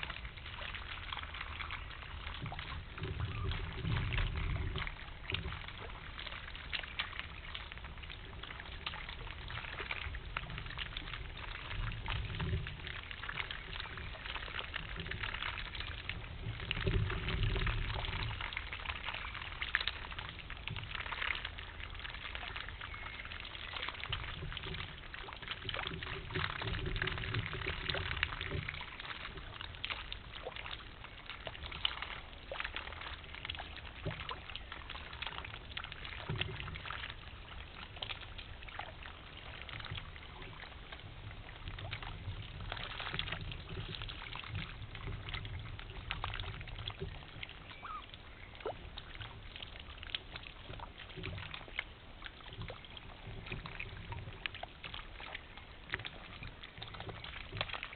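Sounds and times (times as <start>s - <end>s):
stream water trickling and splashing: 0.0s - 57.9s.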